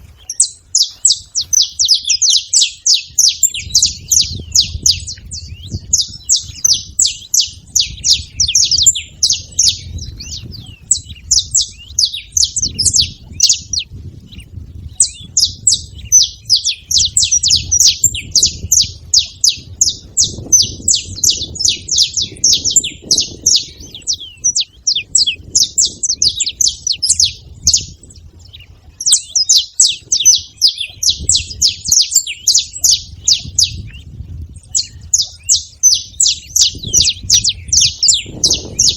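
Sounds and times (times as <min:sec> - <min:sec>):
finches chirping: 0:00.2 - 0:34.0, 0:34.6 - 0:38.9.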